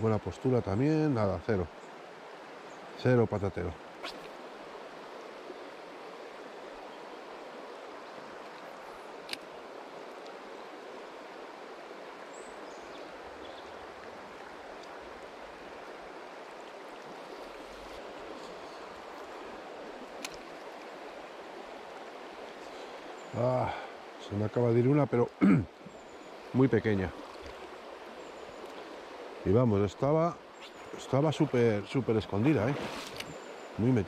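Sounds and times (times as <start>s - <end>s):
shallow river rushing over stones: 3.8s - 34.0s.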